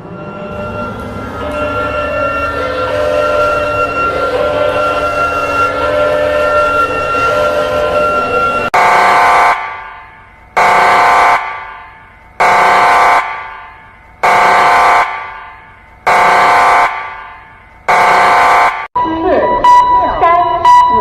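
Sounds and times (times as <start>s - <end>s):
horn warning siren blasts: 0.0s - 21.0s.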